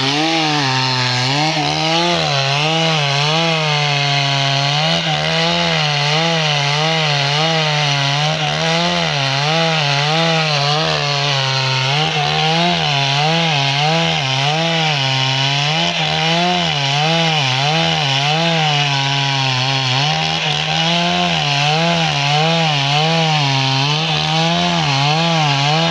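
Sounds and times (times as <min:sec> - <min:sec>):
chainsaw cutting timber: 0:00.0 - 0:25.9.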